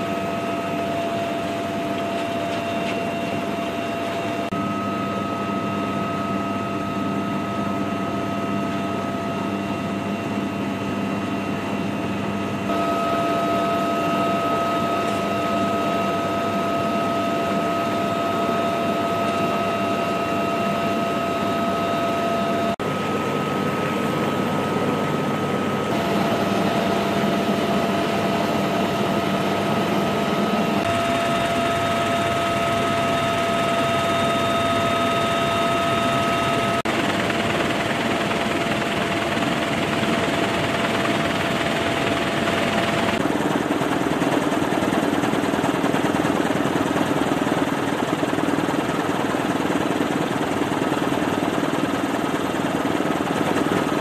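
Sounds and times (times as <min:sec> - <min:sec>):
helicopter engine and rotor: 0:00.0 - 0:54.0.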